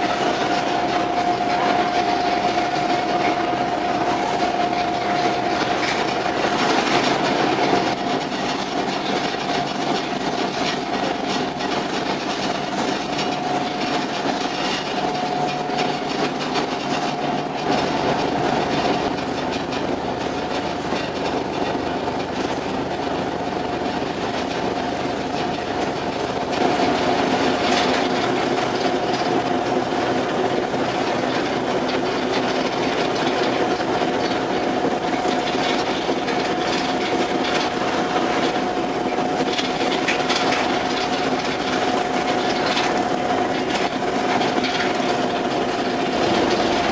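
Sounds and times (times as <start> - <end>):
ferry engines droning: 0.0 - 46.9
machinery rattle: 0.0 - 46.9.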